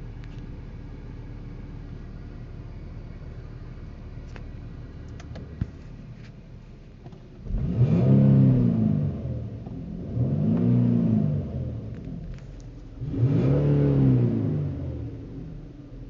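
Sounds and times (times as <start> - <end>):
loud low buzz in car cabin: 0.0 - 16.0.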